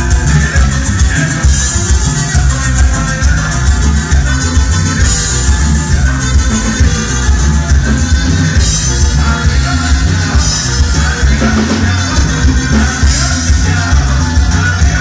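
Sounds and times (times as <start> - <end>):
band playing latin dance music: 0.0 - 15.0.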